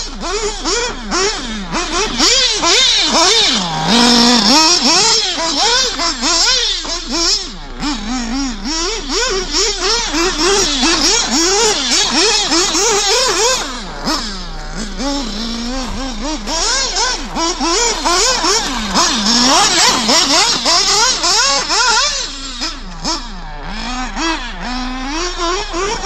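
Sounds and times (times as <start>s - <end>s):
model car engine revving: 0.0s - 26.0s.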